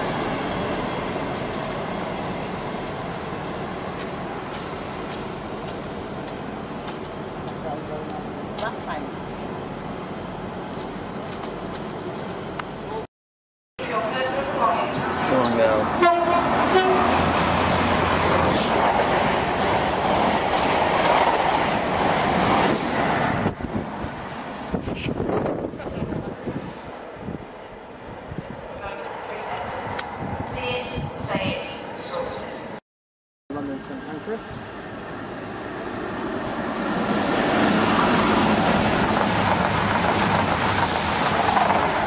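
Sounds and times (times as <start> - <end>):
train rushing past on rails: 0.0 - 13.0, 13.8 - 32.8, 33.6 - 42.0.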